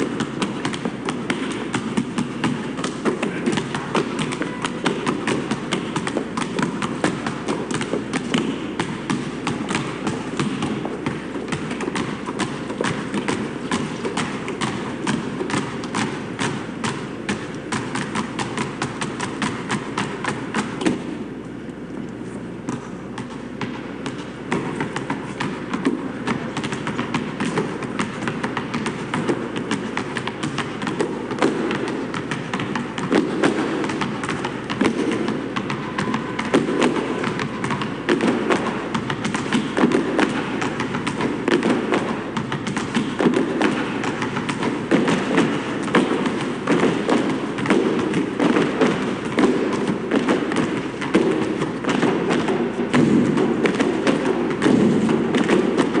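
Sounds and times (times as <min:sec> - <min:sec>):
basketballs bouncing on asphalt: 0:00.0 - 0:21.6, 0:22.4 - 0:56.0
hands slapping basketballs: 0:00.0 - 0:56.0.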